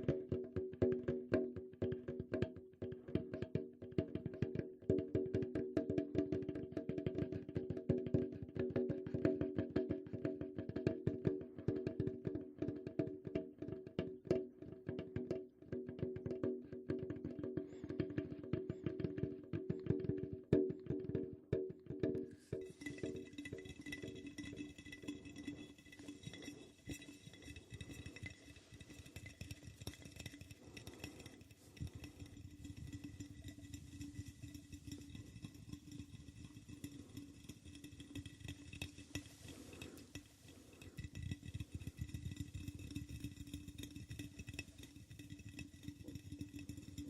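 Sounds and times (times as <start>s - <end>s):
soft tapping on objects: 0.0s - 47.0s.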